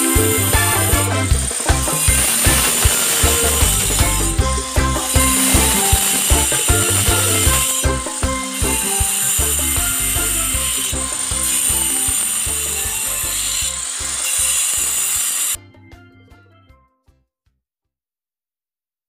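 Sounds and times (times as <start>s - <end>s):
angle grinder cutting brick: 0.0s - 15.6s.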